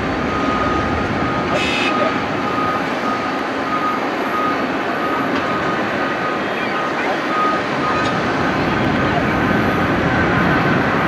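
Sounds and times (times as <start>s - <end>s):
distant jet engines: 0.0s - 11.0s.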